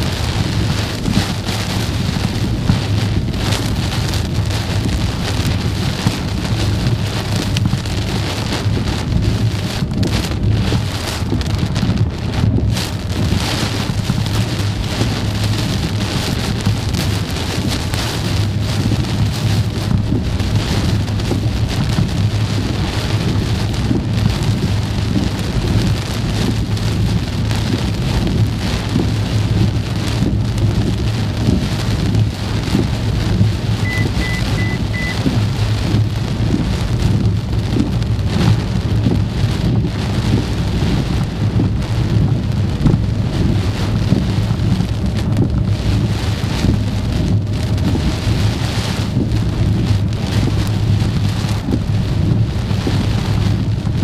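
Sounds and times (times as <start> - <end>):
car driving drone: 0.0 - 54.0
heavy rain on car: 0.0 - 54.0.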